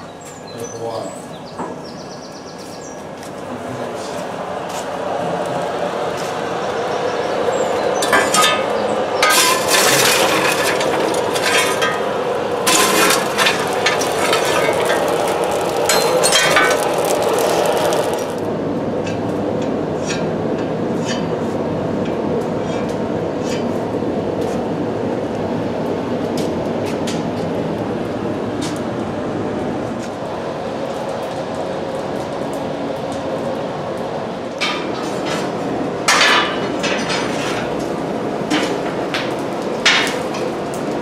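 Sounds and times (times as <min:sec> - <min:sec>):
forge roaring: 0:03.6 - 0:41.0.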